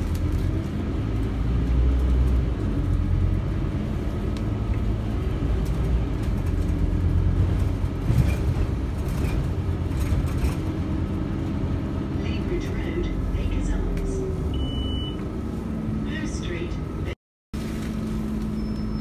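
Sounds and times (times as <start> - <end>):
bus engine humming inside bus: 0.0 - 19.0.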